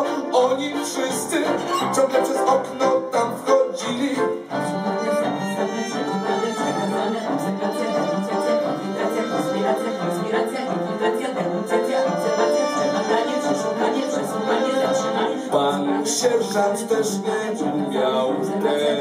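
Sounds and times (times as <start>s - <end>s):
violin: 0.0s - 19.0s.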